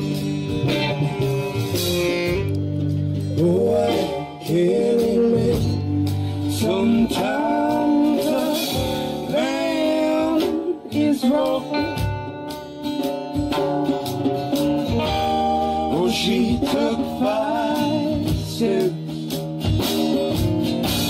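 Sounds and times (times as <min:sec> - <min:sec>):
person singing: 0:00.0 - 0:02.6, 0:03.2 - 0:13.3, 0:15.0 - 0:19.4
guitar accompaniment: 0:00.0 - 0:21.0.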